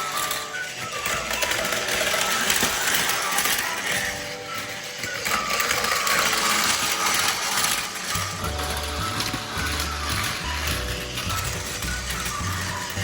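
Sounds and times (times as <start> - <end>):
plastic parts rattling: 0.0 - 13.0
toy motors and gears whirring: 0.0 - 13.0.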